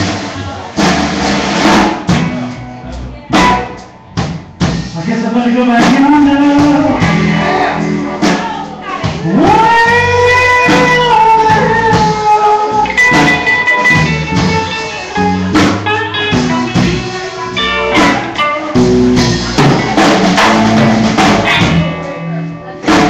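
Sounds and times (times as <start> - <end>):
drum and cymbal hits: 0.0 - 2.7, 3.3 - 22.2
electric guitars: 0.0 - 23.0
live rock band playing: 0.0 - 23.0.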